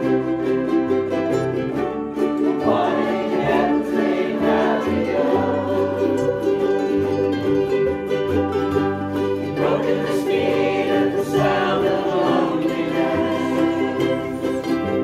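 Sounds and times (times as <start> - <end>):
acoustic guitar: 0.0 - 15.0
cello: 0.0 - 15.0
ukuleles strumming chords: 0.0 - 15.0
group of voices singing: 2.4 - 15.0.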